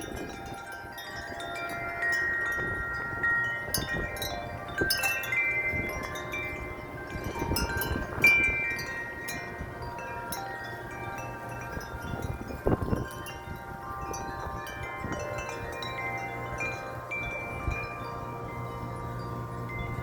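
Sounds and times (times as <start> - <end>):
wind chimes ringing: 0.0 - 20.0.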